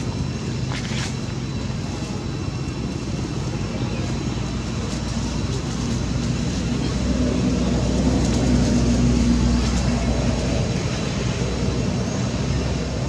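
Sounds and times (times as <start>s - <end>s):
low engine-like drone: 0.0s - 13.0s.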